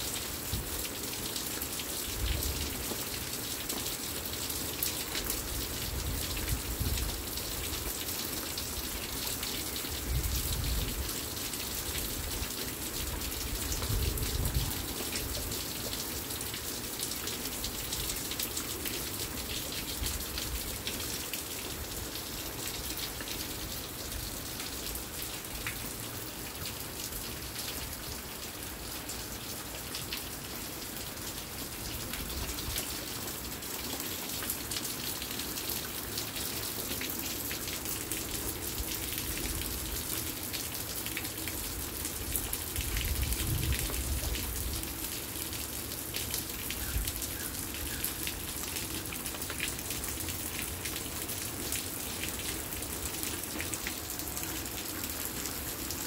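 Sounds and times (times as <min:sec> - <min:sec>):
rain on wooden deck and concrete: 0:00.0 - 0:56.0.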